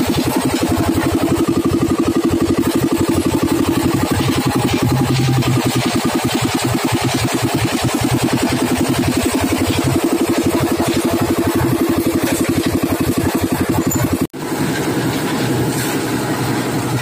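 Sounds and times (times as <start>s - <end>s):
concrete mixer engine running: 0.0s - 17.0s.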